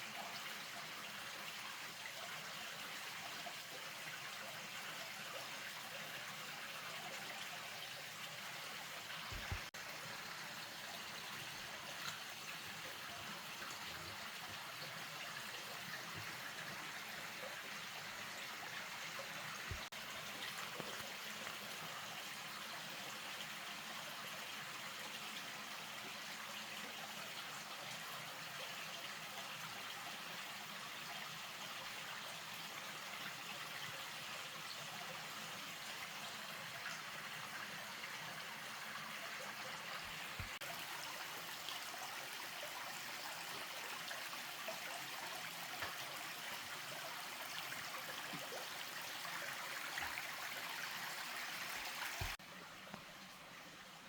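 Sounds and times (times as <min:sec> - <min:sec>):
rushing trickling water: 0:00.0 - 0:54.0.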